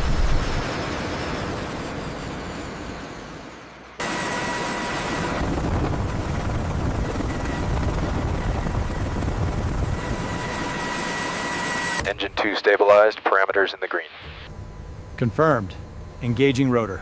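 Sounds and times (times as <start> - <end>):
helicopter engine rumble and whine: 0.0 - 17.0.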